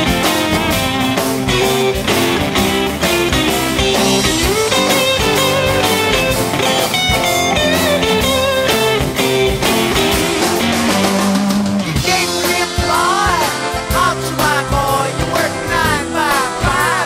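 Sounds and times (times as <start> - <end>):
drum kit beat: 0.0 - 17.0
electric guitar melody: 0.0 - 17.0.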